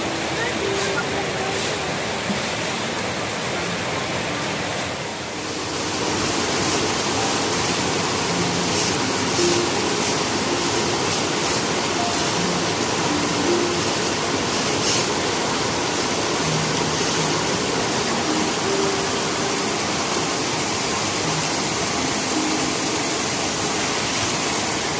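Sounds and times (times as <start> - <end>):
heavy rain hiss: 0.0 - 24.9.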